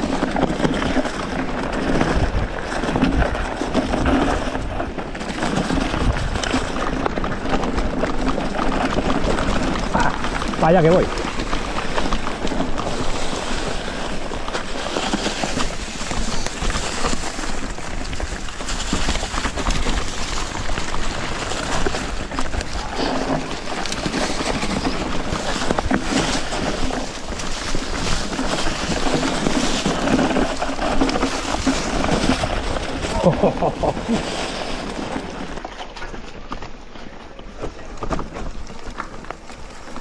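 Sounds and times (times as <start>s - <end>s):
bike rattling and knocking: 0.0s - 40.0s
tyre noise on dirt: 0.0s - 40.0s.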